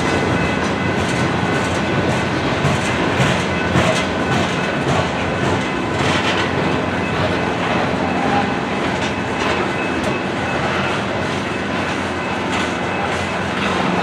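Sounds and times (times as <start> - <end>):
train rail rumble: 0.0 - 14.0
wheels clacking on track: 0.0 - 14.0.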